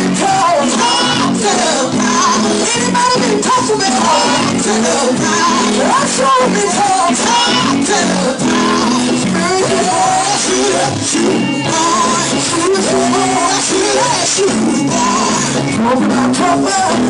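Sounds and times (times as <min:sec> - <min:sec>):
gospel singing voice: 0:00.0 - 0:17.0
sustained instrumental chords: 0:00.0 - 0:17.0.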